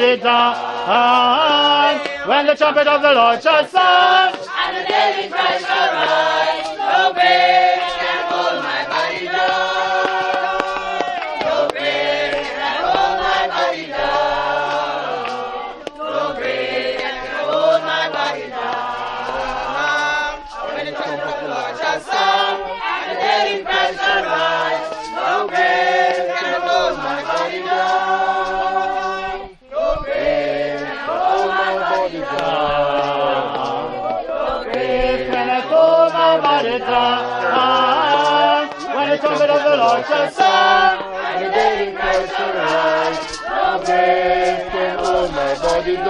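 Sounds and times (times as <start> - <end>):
group singing a hymn: 0.0 - 46.0.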